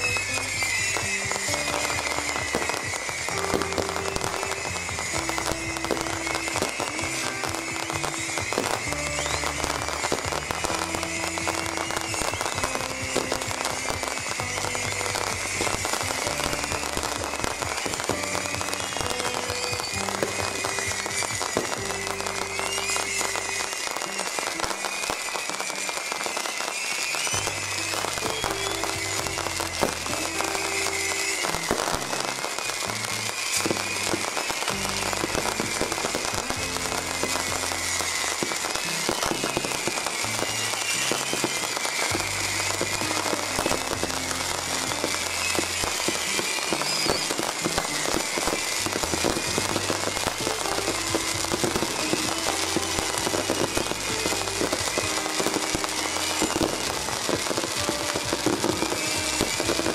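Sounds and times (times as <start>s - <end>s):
firecrackers crackling: 0.0s - 59.9s
music playing: 0.0s - 59.9s.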